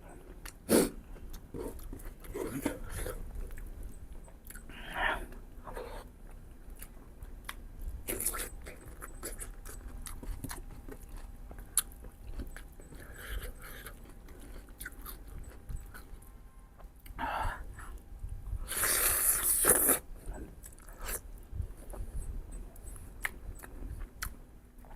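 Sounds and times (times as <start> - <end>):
chewing meat ribs: 0.1 - 17.2, 17.9 - 24.9.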